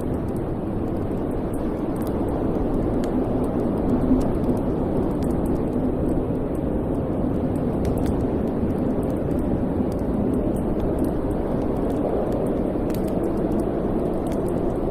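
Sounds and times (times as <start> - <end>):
fire crackling and popping: 0.0 - 14.9
fire roaring in a fireplace: 0.0 - 14.9.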